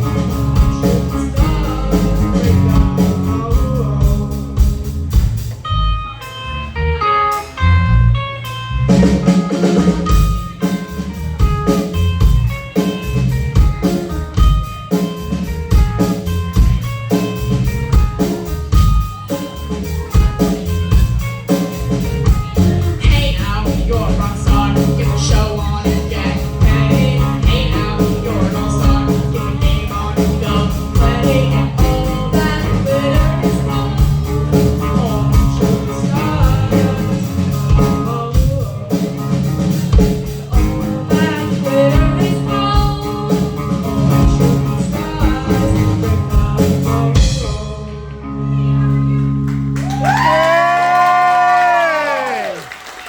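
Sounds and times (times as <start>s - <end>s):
drum kit: 0.0s - 47.9s, 49.5s - 53.0s
live rock band playing: 0.0s - 53.0s.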